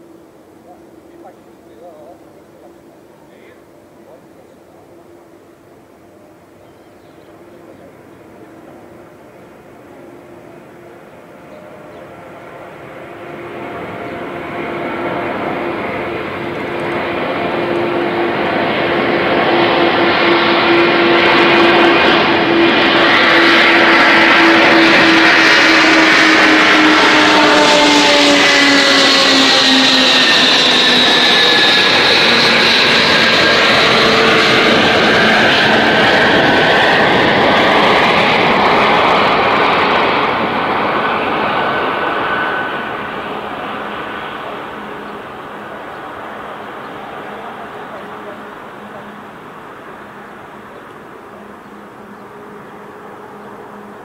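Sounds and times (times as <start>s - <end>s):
jet engines roaring overhead: 0.0s - 54.0s.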